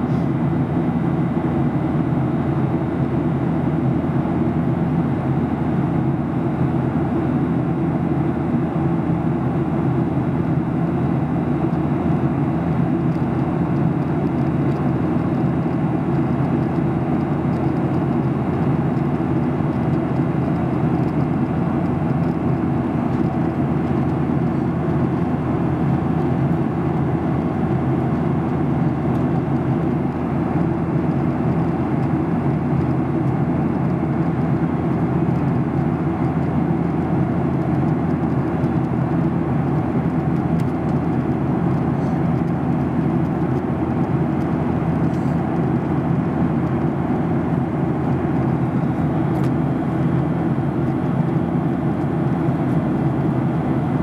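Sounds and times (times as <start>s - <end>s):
airliner cabin roar: 0.0s - 54.0s
constant low hum: 0.0s - 54.0s.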